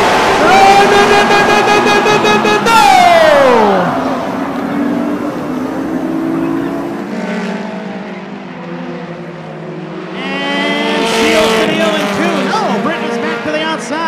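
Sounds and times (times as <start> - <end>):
stock car engines racing: 0.0 - 14.0.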